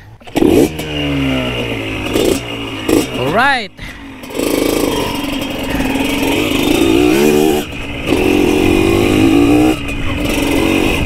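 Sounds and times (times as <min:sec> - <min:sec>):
dirt bike engine revving: 0:00.2 - 0:11.0.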